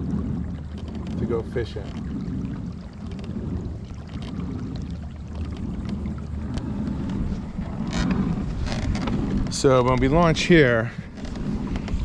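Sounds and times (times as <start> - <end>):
paddle splashes in water: 0.0 - 12.0
wind rumbling on microphone: 0.0 - 12.0.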